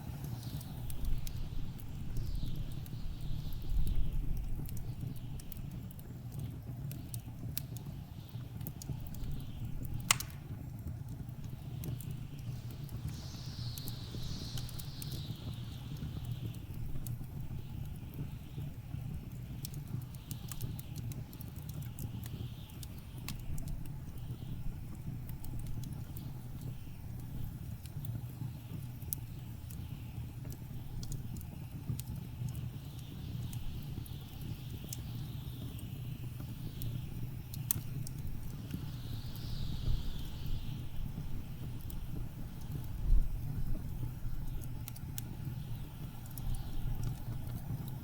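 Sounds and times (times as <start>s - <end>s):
fire popping: 0.0s - 48.0s
wood fire crackling: 0.0s - 48.0s.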